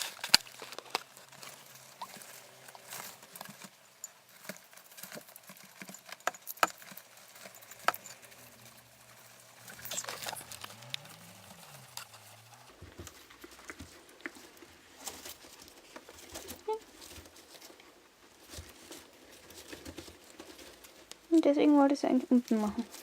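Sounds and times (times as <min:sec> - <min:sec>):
soft clicks and rustles: 0:00.0 - 0:21.6
small feet pattering: 0:00.0 - 0:23.0.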